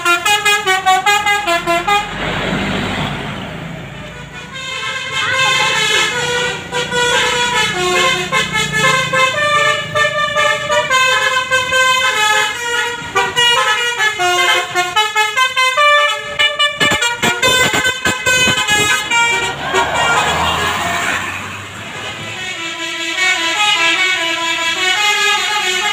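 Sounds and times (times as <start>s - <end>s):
musical bus horn melody: 0.0s - 2.2s, 3.9s - 25.9s.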